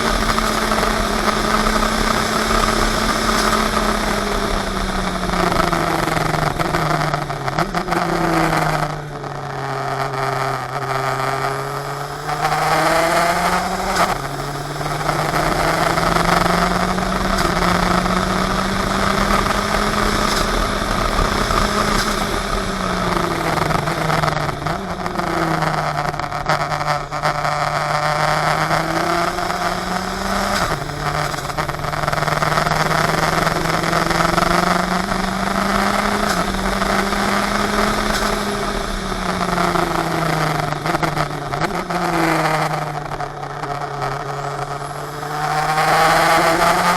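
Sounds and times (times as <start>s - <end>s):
sports car engine running: 0.0s - 46.9s.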